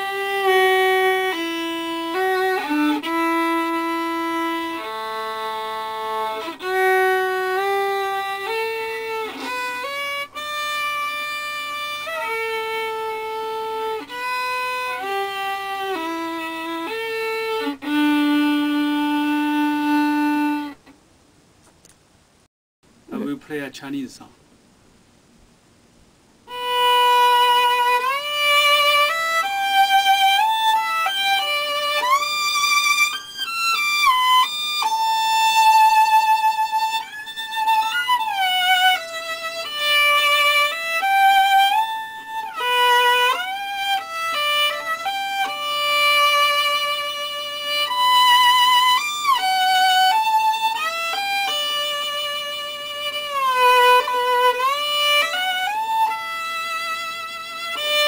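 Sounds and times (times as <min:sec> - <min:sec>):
solo violin melody: 0:00.0 - 0:20.9, 0:26.4 - 0:58.0.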